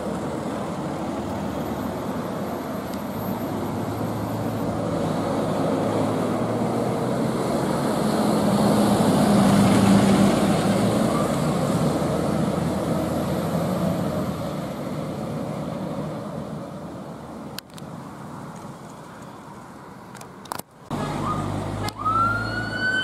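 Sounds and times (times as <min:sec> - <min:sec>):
fire engine driving past: 0:00.0 - 0:17.4, 0:20.9 - 0:23.0.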